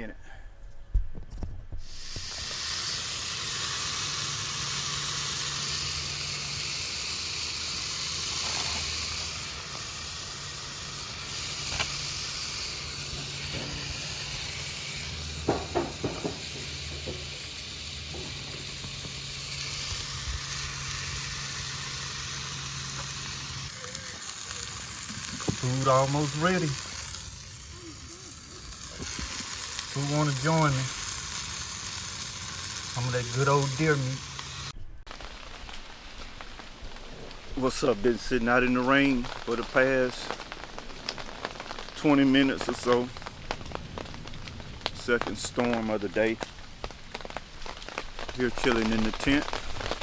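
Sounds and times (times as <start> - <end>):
meat sizzling in a pan: 1.8 - 50.0.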